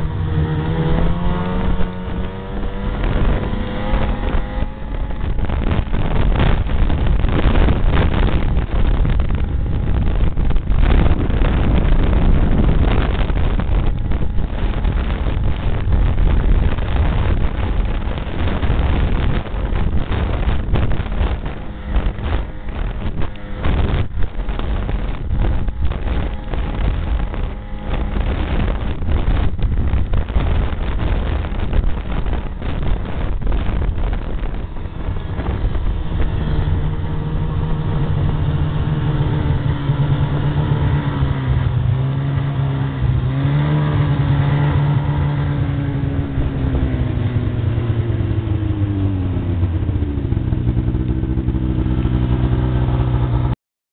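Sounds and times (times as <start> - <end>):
knocks and jolts from rough ride: 0.0 - 48.9
snowmobile engine: 0.0 - 53.6
wind buffeting microphone: 0.0 - 53.6.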